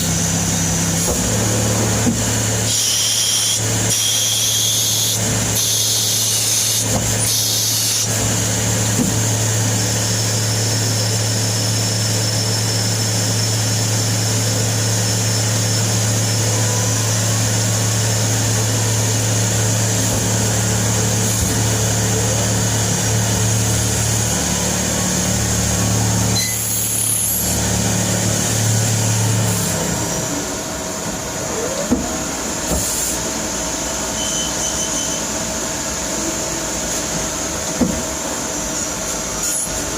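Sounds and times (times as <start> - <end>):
lathe humming and whining: 0.0 - 39.9.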